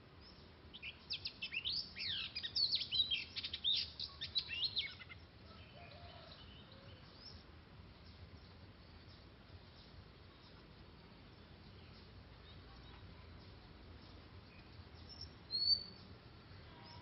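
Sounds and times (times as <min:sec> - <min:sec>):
bird singing whistled notes: 0:00.2 - 0:17.0.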